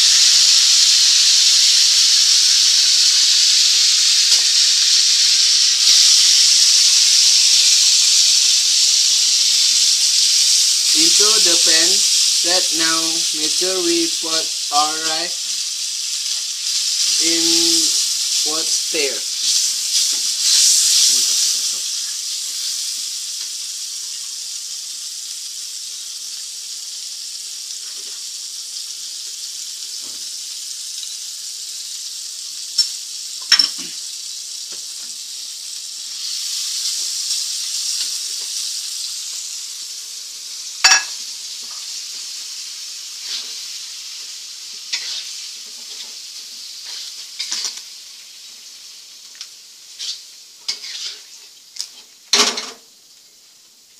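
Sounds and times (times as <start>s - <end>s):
food sizzling in oil: 0.0s - 53.9s.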